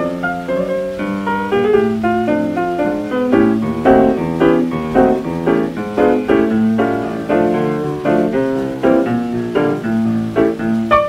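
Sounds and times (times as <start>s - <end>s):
solo jazz piano: 0.0s - 11.0s.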